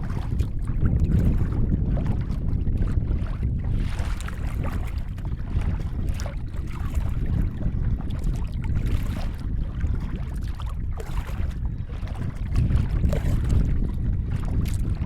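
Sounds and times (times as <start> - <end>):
water lapping against kayak hull: 0.0 - 15.0
wind rumbling on microphone: 0.0 - 15.0.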